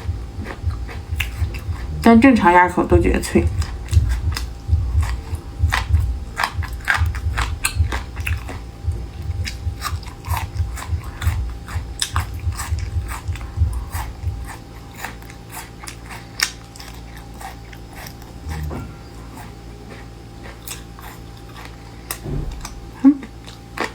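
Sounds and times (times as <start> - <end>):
chewing crunchy food: 0.0 - 23.9.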